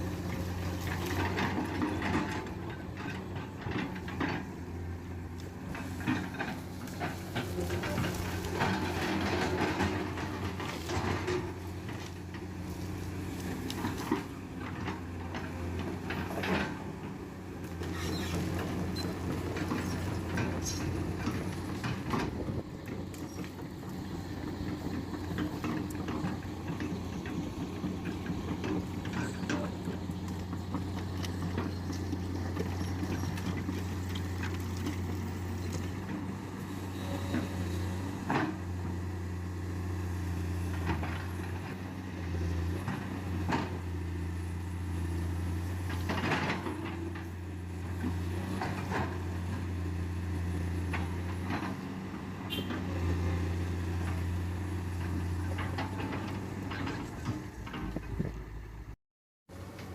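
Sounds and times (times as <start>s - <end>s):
knocks and scraping clatter: 0.0s - 58.6s
diesel machinery droning: 0.0s - 59.9s.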